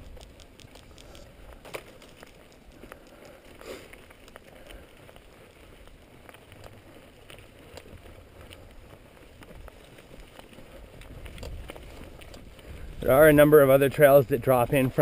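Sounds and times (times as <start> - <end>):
bike clicks and rattles: 0.0 - 15.0
tyres crunching on gravel: 0.0 - 15.0.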